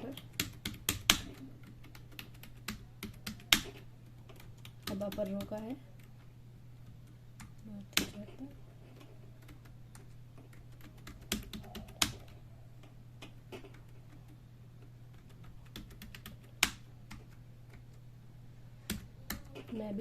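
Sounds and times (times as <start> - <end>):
keyboard typing: 0.0 - 18.0, 18.8 - 19.9
faint low hum: 0.0 - 20.0.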